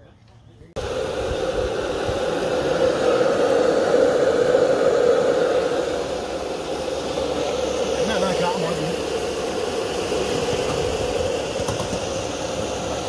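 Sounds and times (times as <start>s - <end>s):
electric blower fan running: 0.8s - 13.0s.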